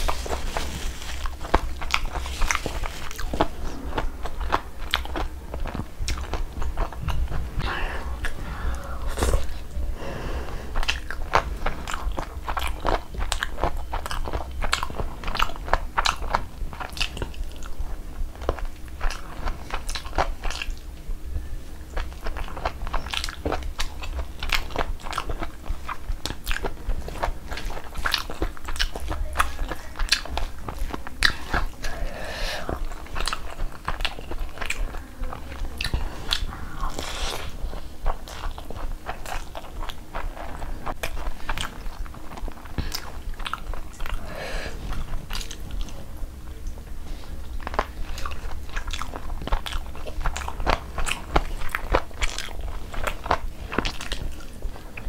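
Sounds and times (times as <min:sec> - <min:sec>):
person chewing food: 0:00.0 - 0:55.0
steady low hum: 0:00.0 - 0:55.0.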